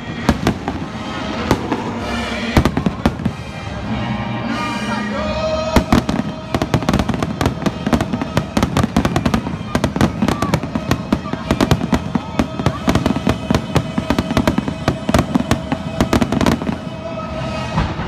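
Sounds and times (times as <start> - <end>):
fireworks bangs: 0.0 - 3.9, 5.5 - 18.0
fireworks crackle: 0.0 - 3.9, 5.4 - 18.0.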